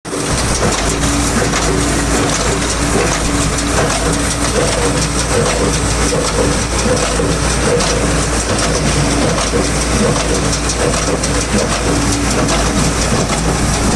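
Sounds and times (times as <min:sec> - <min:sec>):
baler mechanism clattering: 0:00.1 - 0:13.9
tractor engine running: 0:00.1 - 0:13.9.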